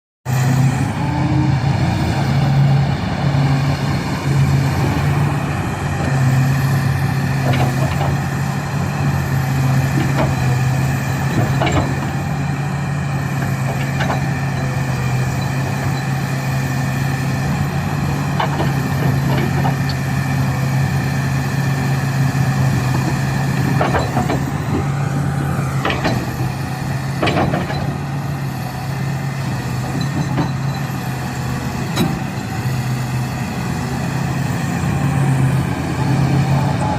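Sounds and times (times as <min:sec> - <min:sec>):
excavator diesel engine humming: 0:00.3 - 0:36.9.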